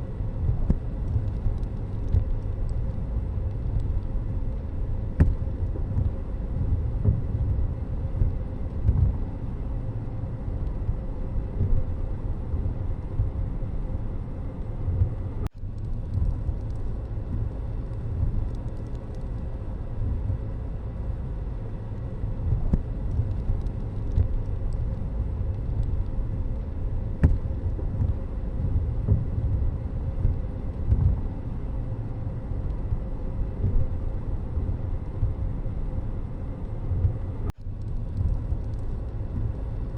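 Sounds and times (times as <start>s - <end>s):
vehicle road noise rumble: 0.0s - 39.9s.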